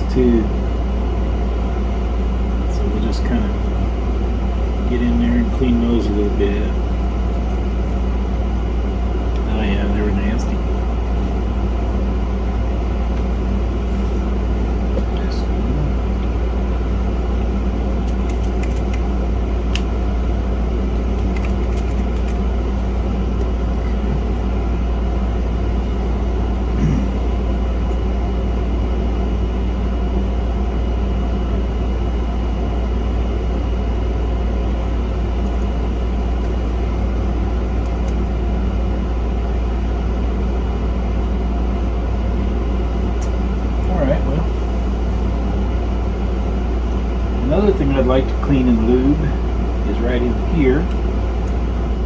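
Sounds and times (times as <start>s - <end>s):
low mechanical hum and rumble: 0.0s - 52.0s.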